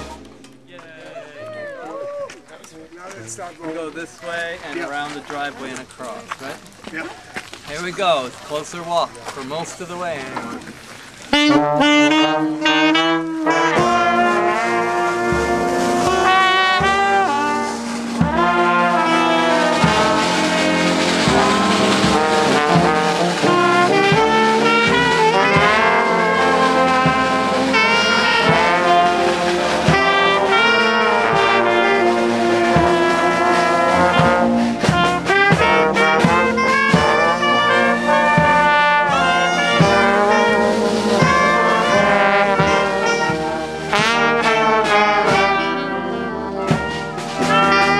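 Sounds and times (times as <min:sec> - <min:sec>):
brass band playing a march: 0:00.0 - 0:47.9.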